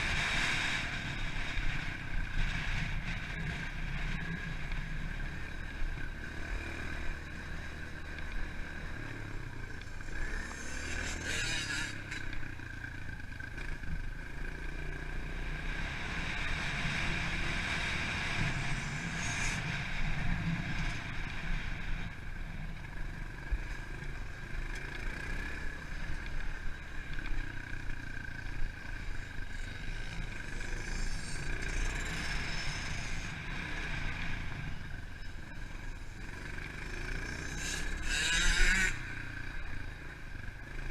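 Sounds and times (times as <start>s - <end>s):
pit bike engine running: 0.0s - 40.9s.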